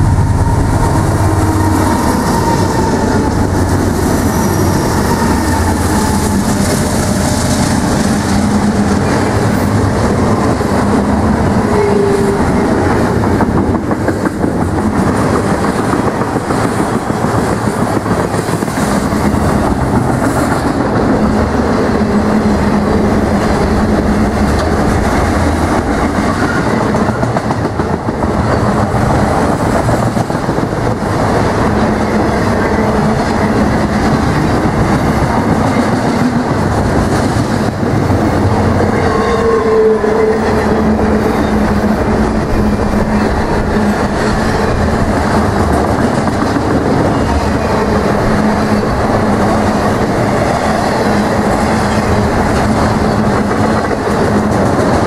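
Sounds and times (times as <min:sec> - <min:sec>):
diesel locomotive passing: 0:00.0 - 0:55.0
train wheels running over rails: 0:00.0 - 0:55.0.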